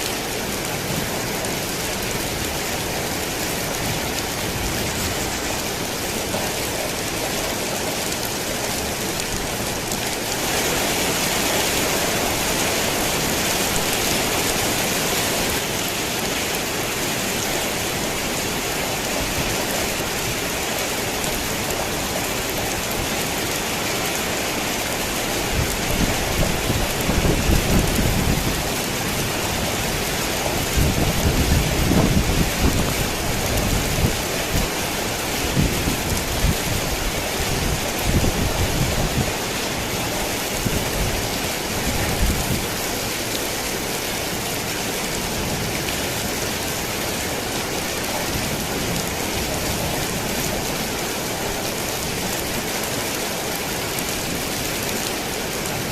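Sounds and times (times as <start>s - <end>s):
rain on a tin roof: 0.0s - 55.9s.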